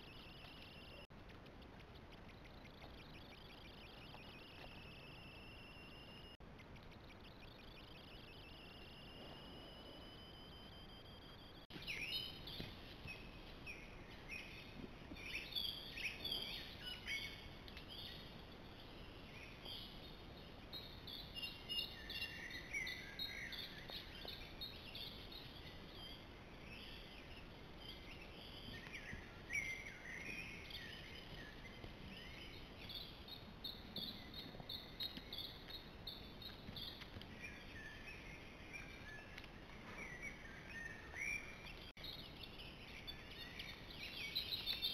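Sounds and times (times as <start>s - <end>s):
songbirds singing: 0.0s - 10.6s, 11.3s - 44.9s.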